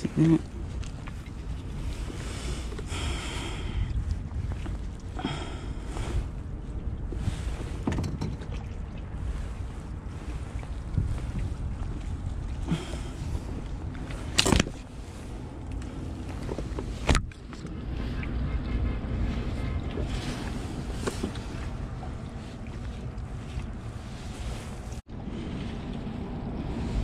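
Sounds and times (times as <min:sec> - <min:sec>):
wind noise on microphone: 0:00.4 - 0:27.0.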